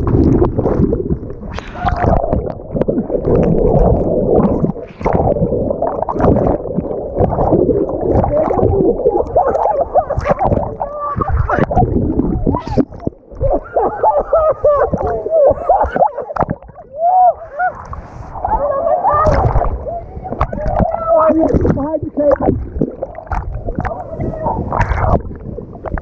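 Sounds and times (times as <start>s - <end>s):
muffled underwater gurgling: 0.0s - 26.0s
water splashing: 0.0s - 26.0s.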